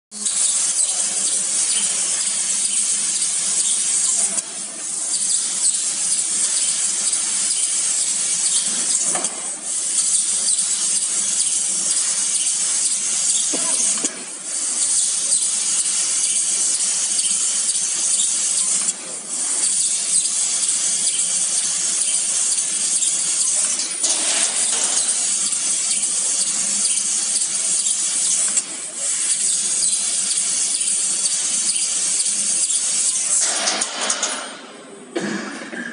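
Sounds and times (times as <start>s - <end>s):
laser cutting head hissing: 0.2s - 34.4s.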